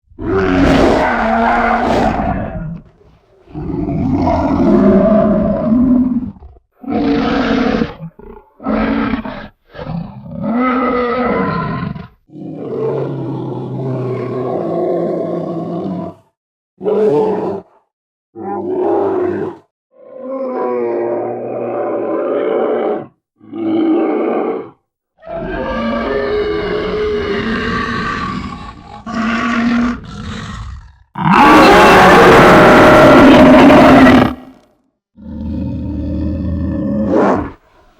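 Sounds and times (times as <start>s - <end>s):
bear roaring and growling: 0.1s - 17.8s, 18.4s - 37.9s.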